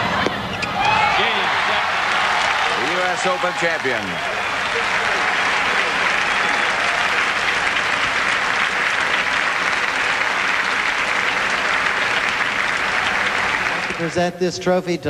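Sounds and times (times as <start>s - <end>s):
stadium crowd applauding: 0.8s - 14.4s.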